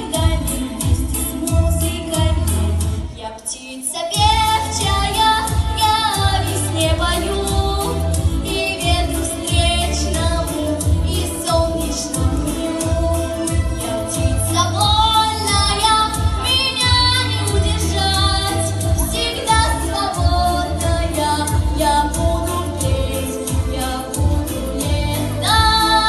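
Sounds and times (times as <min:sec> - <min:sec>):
woman singing: 0:00.0 - 0:26.0.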